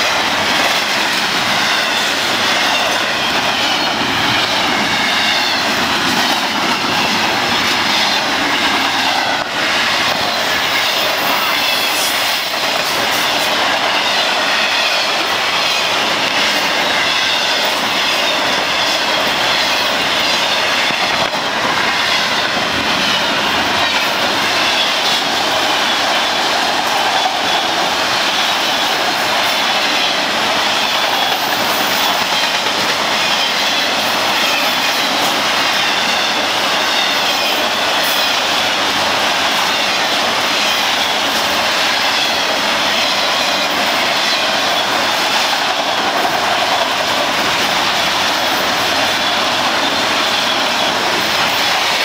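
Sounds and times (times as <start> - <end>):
freight train wheels on rail: 0.0 - 52.0
high wheel squeal: 1.5 - 38.7, 39.5 - 52.0.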